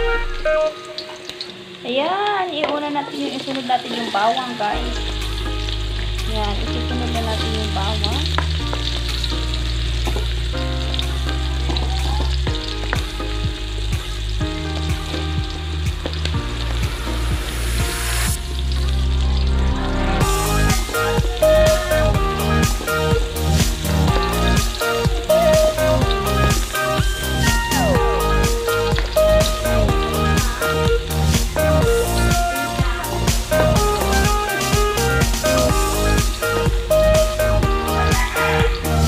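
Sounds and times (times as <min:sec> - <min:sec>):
background music with bass: 0:00.0 - 0:01.0, 0:04.8 - 0:39.0
food sizzling in oil: 0:00.0 - 0:39.0.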